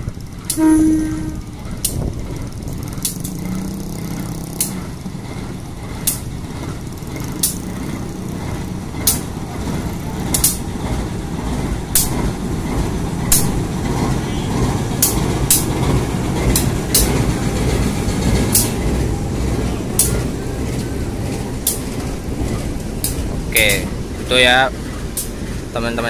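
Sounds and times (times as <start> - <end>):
diesel engine running: 0.0 - 26.0
wheels clicking over rail joints: 0.0 - 26.0.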